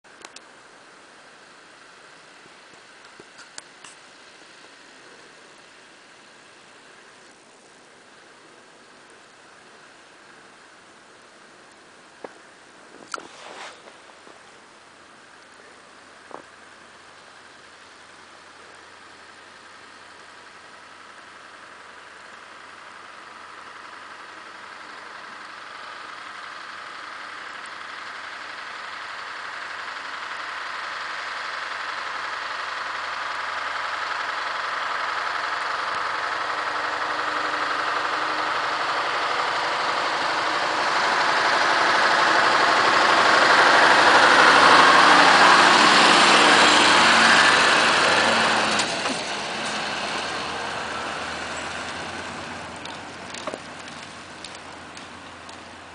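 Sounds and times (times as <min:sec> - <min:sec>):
truck diesel engine passing: 0:00.1 - 0:55.9.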